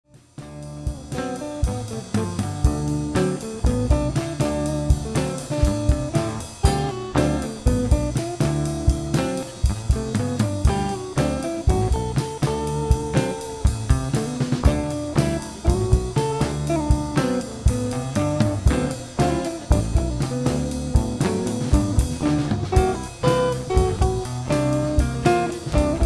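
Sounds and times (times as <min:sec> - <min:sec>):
guitar: 0:00.0 - 0:26.0
drum kit beat: 0:00.1 - 0:26.0.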